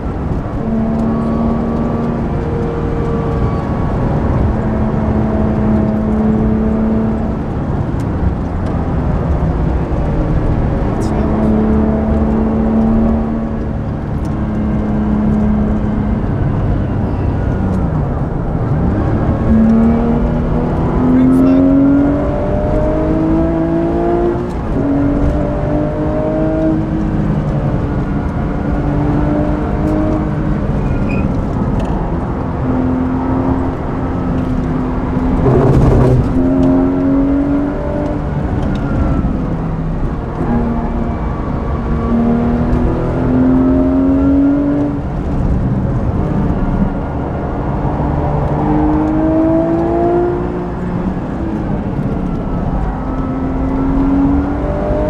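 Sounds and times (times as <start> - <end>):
car engine revving: 0.0 - 55.0
road noise: 0.0 - 55.0.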